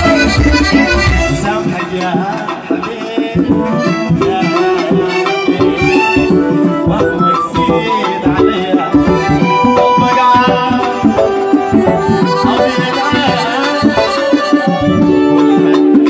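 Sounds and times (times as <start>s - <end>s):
electronic keyboard melody: 0.0s - 16.0s
hand drums beat: 0.0s - 16.0s.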